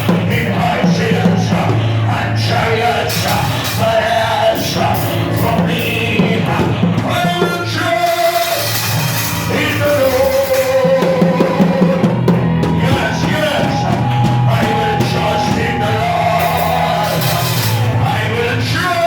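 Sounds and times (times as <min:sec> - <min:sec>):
live band playing: 0:00.0 - 0:19.0
singing with held notes: 0:00.0 - 0:19.0.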